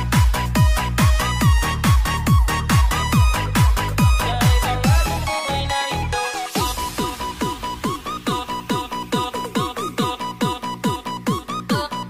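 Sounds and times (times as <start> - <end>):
kick drum beat: 0.0 - 5.4, 6.6 - 12.0.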